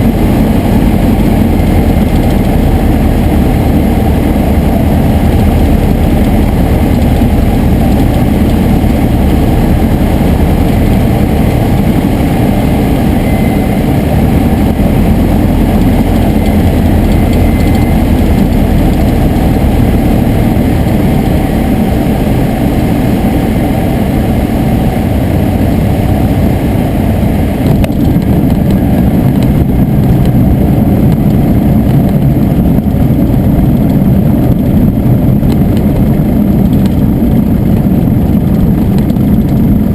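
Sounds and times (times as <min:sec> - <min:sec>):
plane engine droning: 0:00.0 - 0:39.9.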